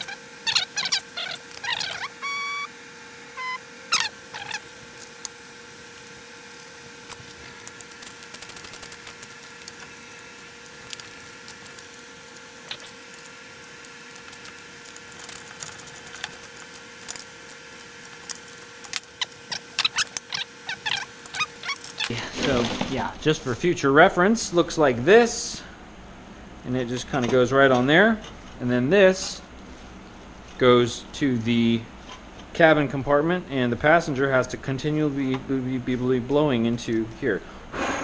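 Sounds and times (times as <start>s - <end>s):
faint hum: 0.0s - 38.0s.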